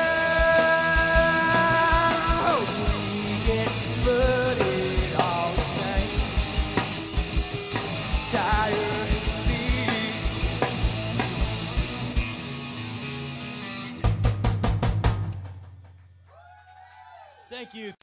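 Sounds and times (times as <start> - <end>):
electric guitars playing: 0.0 - 15.3.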